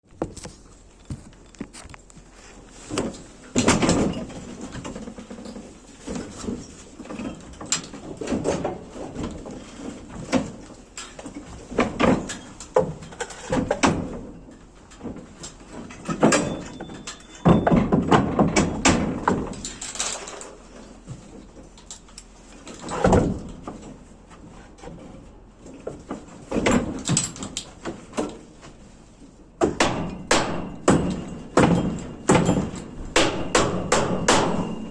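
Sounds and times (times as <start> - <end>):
carpentry knocks and scraping: 0.0 - 28.8, 29.6 - 34.9.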